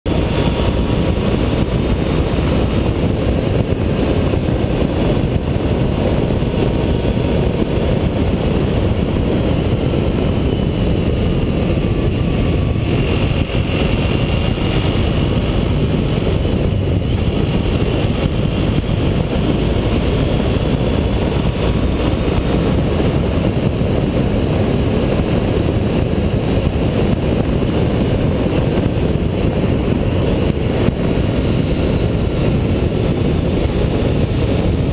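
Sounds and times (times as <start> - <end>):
wind rushing over microphone: 0.0 - 34.9
motorcycle engine drone: 0.1 - 34.9.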